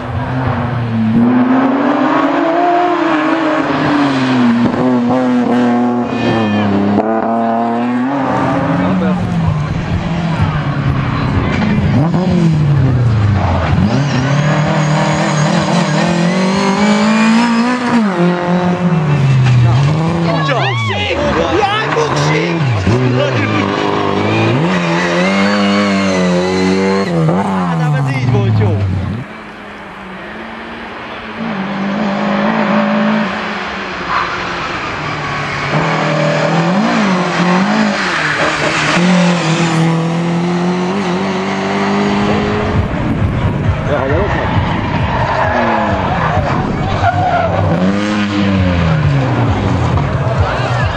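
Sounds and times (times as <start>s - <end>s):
rally car engine accelerating: 0.0s - 50.9s
tyre and road noise: 0.0s - 50.9s.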